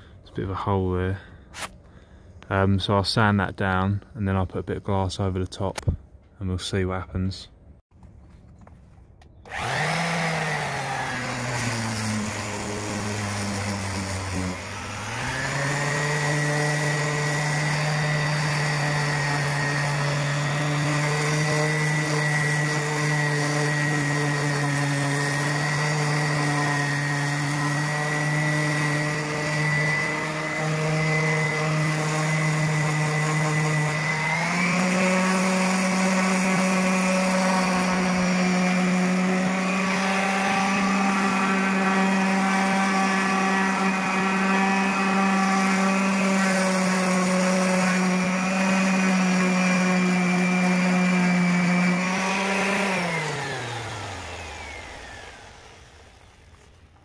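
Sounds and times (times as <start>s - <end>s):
sander spinning down whine: 9.4s - 57.0s
orbital sander running: 9.5s - 56.8s.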